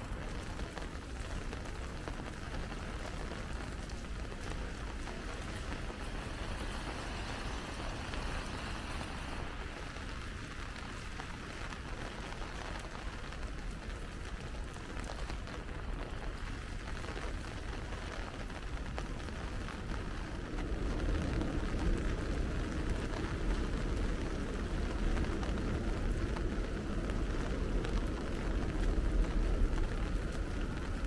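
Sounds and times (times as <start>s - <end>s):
low steady rumble: 0.0s - 31.0s
rain falling on street: 0.0s - 31.0s.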